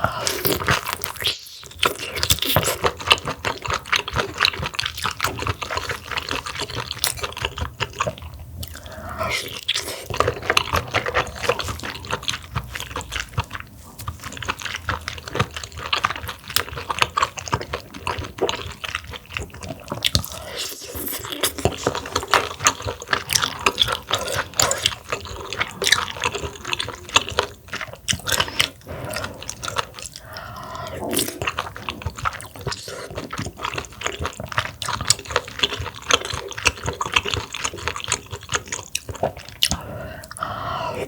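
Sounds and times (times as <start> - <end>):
slurping soup: 0.0 - 41.0
wet chewing: 0.0 - 41.0.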